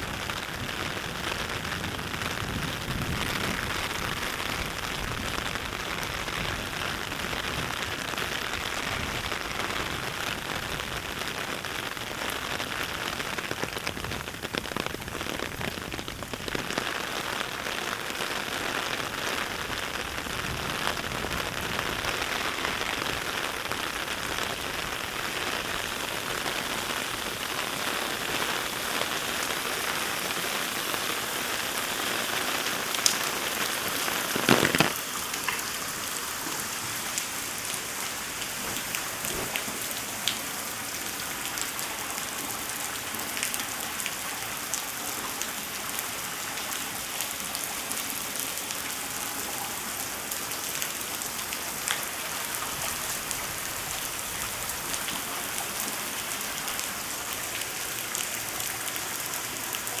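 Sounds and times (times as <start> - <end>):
heavy rain pattering: 0.0 - 60.0.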